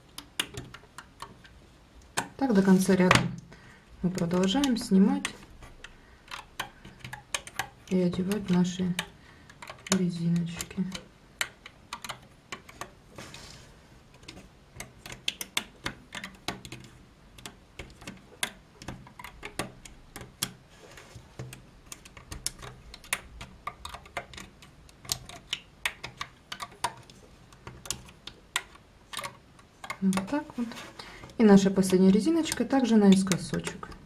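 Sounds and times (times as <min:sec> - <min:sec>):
crochet hook clicking on plastic pegs: 0:00.0 - 0:02.4, 0:04.0 - 0:13.0, 0:14.1 - 0:20.6, 0:21.4 - 0:30.6, 0:31.2 - 0:34.0.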